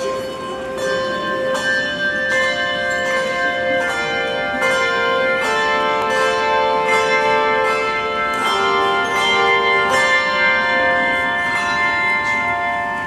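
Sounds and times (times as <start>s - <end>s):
handbell chords ringing: 0.0s - 13.0s.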